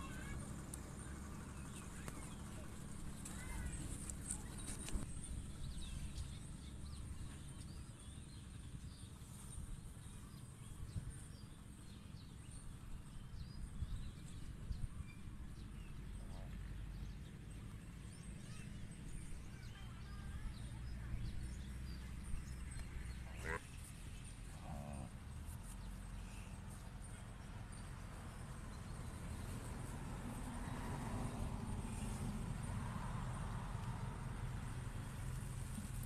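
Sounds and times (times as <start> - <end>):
small birds chirping: 0.0 - 29.7.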